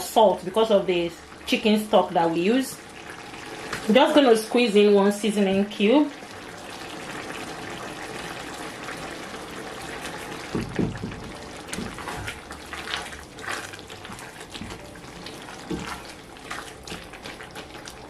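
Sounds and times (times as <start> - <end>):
stew bubbling in a pot: 0.0 - 18.0.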